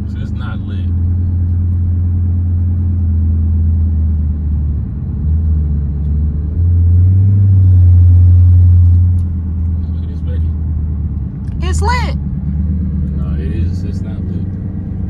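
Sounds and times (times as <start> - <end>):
car rumble: 0.0 - 15.0.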